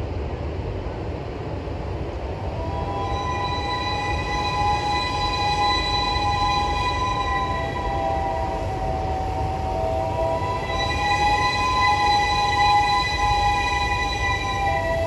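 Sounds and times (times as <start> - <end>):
low rumble of train: 0.0 - 15.0
steam locomotive whistle blast: 2.6 - 15.0.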